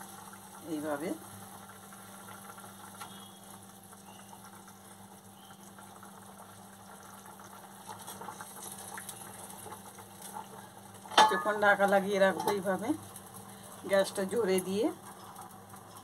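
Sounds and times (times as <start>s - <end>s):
curry bubbling in a pan: 0.0s - 16.0s.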